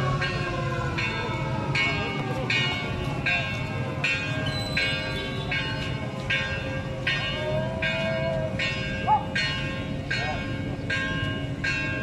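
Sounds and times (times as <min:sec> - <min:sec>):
bell ringing: 0:01.8 - 0:12.0.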